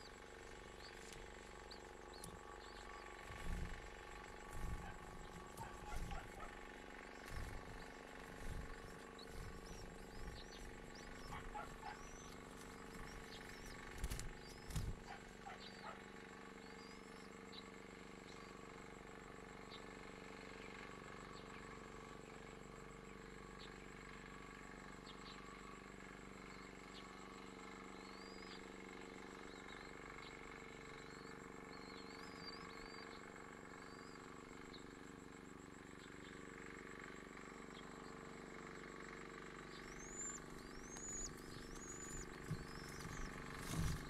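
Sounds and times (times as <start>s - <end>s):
steady low hum: 0.0s - 27.3s, 29.4s - 44.0s.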